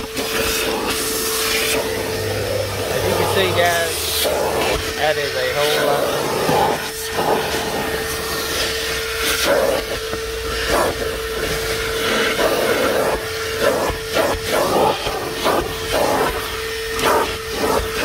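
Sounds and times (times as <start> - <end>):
shop vacuum motor whine: 0.0 - 18.0
vacuum suction air rushing: 0.0 - 18.0.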